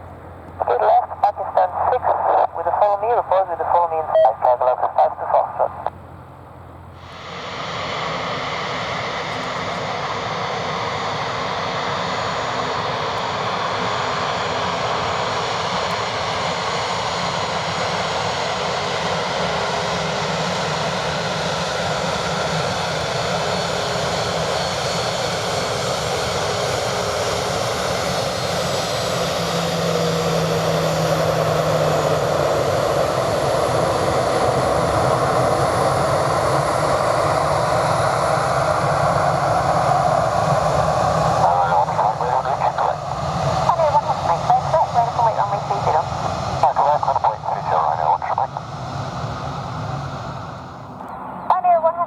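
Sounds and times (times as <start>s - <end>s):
jet engines roaring: 0.0s - 5.9s, 6.9s - 52.0s.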